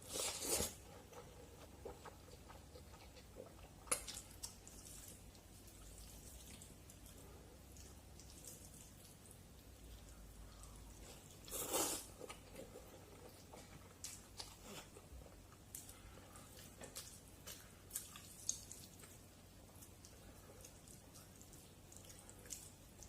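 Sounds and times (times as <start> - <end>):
wet chewing with mouth clicks: 0.1 - 23.0.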